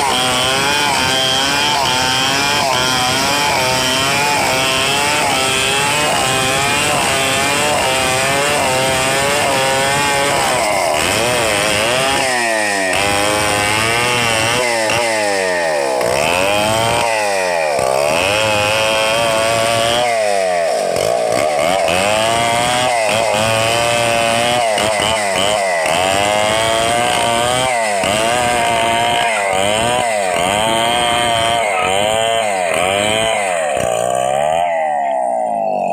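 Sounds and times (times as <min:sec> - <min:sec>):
chainsaw cutting log: 0:00.0 - 0:35.9.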